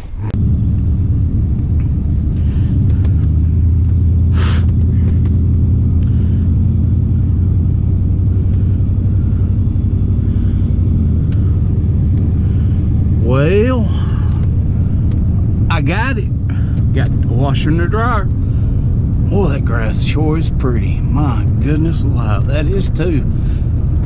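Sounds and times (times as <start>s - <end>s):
road noise: 0.0s - 24.0s
vehicle engine droning: 0.0s - 24.0s.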